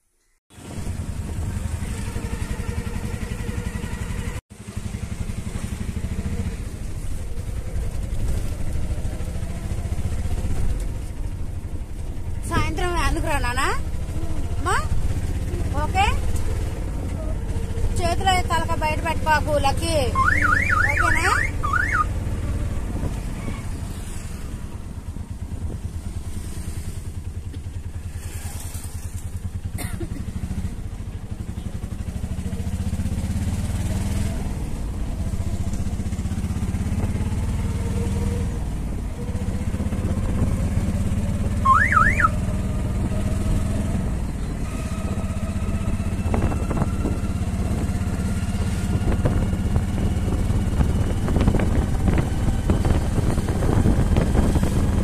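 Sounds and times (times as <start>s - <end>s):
auto-rickshaw engine running: 0.5s - 55.0s.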